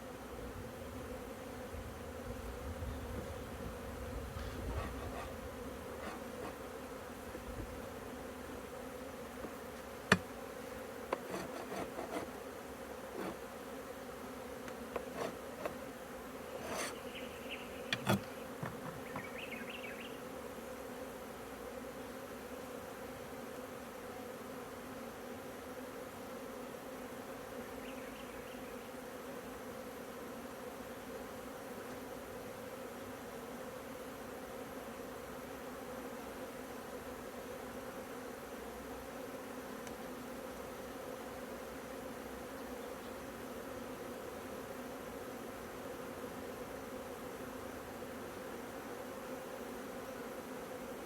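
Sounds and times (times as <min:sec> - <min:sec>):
honeybees buzzing: 0:00.0 - 0:51.0.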